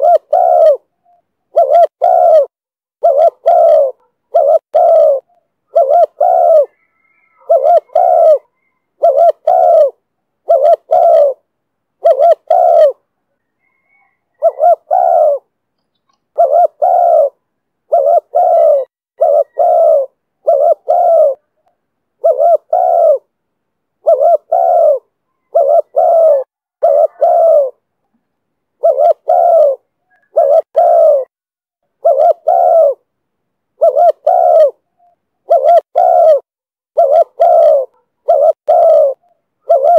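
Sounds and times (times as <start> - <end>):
dove cooing: 0.0 - 15.5, 16.3 - 23.3, 24.0 - 27.9, 28.8 - 31.3, 32.0 - 33.1, 33.8 - 39.9.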